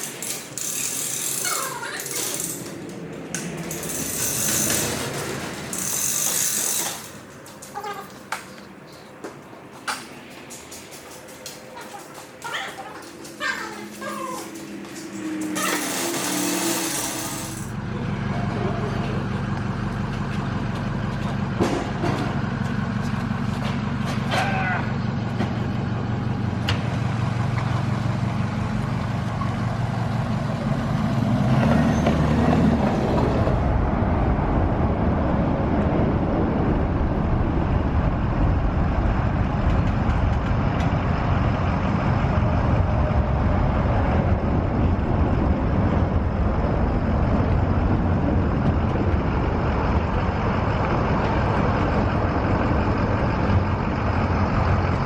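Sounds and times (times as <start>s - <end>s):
motor vehicle running: 0.0s - 55.0s.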